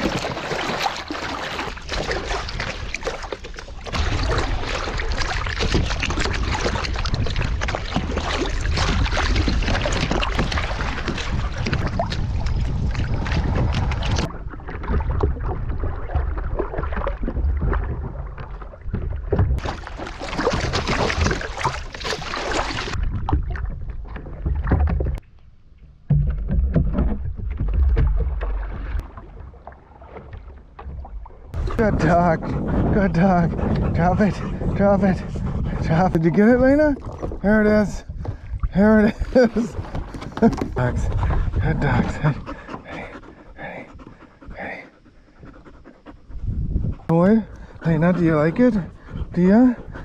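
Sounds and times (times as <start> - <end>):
water splashing against kayak: 0.0 - 25.3, 26.0 - 50.0
wind rumbling on microphone: 1.6 - 25.2, 30.2 - 44.8, 45.4 - 50.0.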